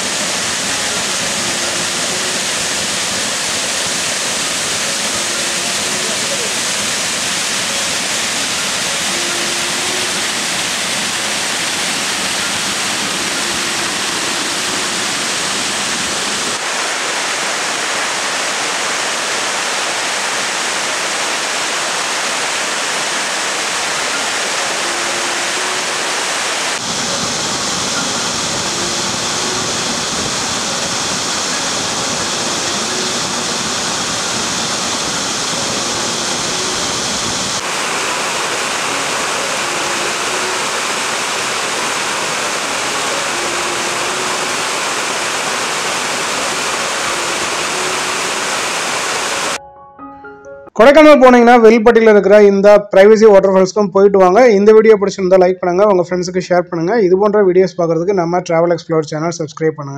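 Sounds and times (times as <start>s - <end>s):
waterfall rushing over rocks: 0.0s - 49.6s.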